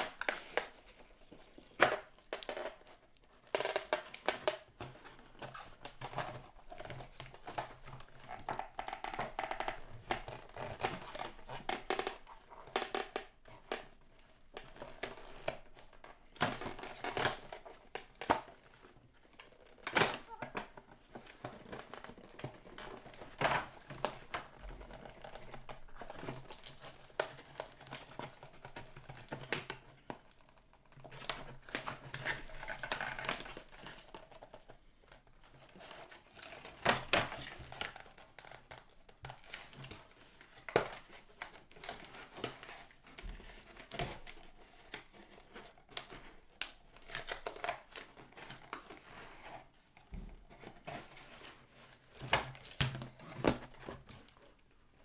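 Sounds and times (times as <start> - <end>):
plastic and cardboard crinkling: 0.0 - 55.0.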